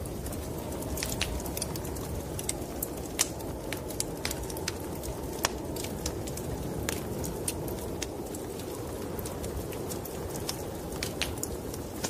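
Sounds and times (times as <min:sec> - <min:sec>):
snowstorm wind rumbling: 0:00.0 - 0:12.0
wood fire crackling and popping: 0:00.0 - 0:12.0.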